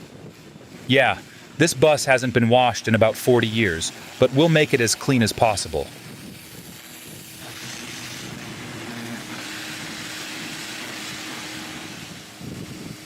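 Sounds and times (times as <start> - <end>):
water spray hissing: 1.0 - 13.0.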